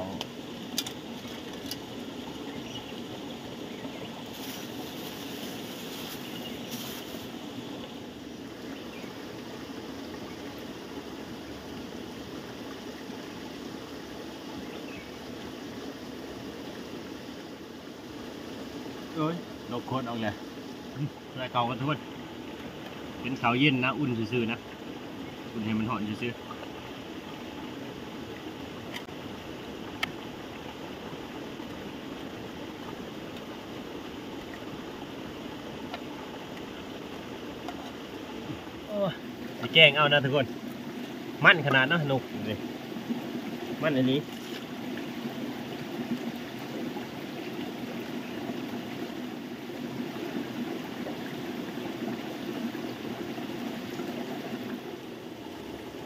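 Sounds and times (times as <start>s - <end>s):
flowing water rushing: 0.0s - 56.0s.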